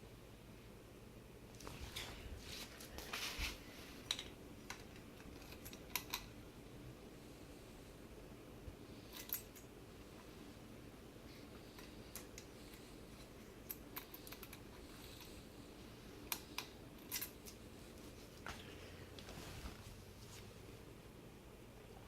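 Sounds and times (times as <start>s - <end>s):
ceiling fan humming: 0.0s - 22.0s.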